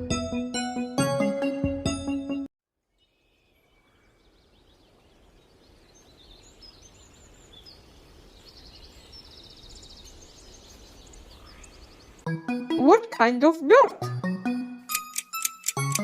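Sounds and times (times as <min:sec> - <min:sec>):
faint outdoor background: 0:02.3 - 0:16.0.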